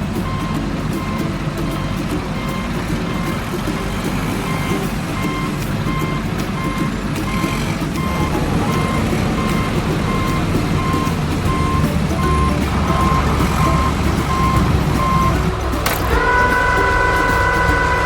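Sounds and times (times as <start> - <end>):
truck engine rumble: 0.0 - 18.0
truck reversing beeper: 0.0 - 18.0.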